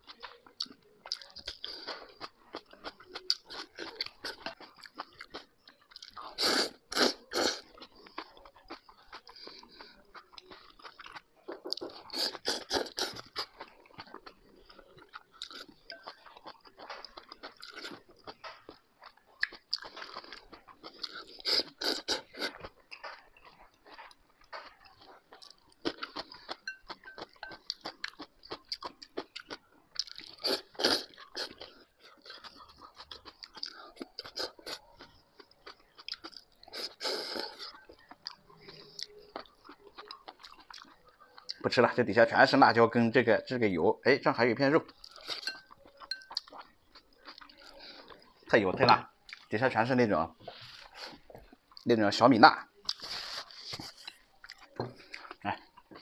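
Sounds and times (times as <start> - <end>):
man chewing noodles: 0.0 - 41.8, 44.8 - 51.9, 52.8 - 56.0.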